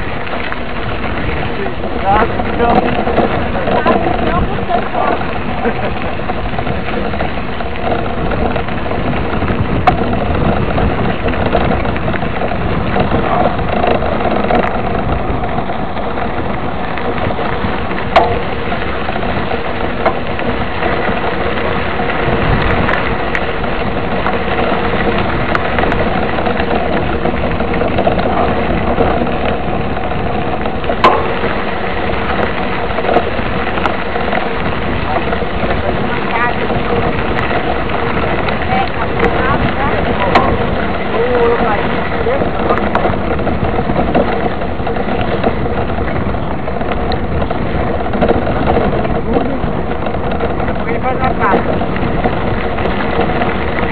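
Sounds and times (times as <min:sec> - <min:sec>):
bike tyres rolling over gravel: 0:00.0 - 0:53.9.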